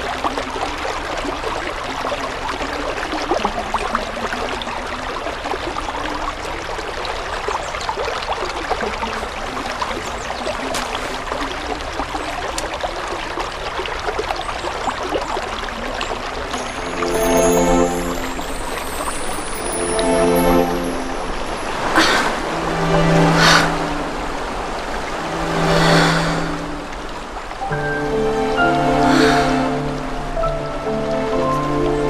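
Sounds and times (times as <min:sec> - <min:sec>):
stream babbling over rocks: 0:00.0 - 0:32.0.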